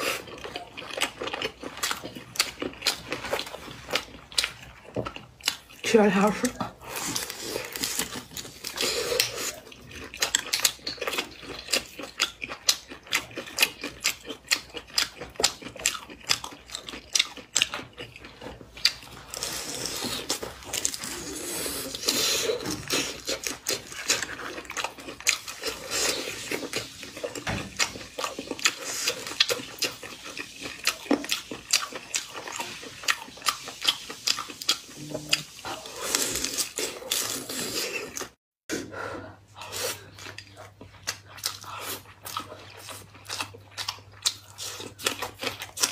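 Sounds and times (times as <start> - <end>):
woman chewing food: 0.0 - 45.9.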